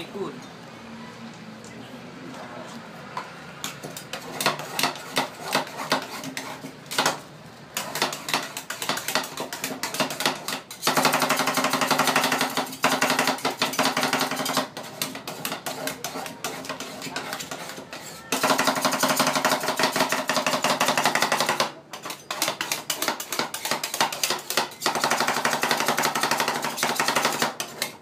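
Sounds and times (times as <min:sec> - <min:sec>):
metal spatulas chopping on steel plate: 0:03.6 - 0:07.2, 0:07.8 - 0:28.0.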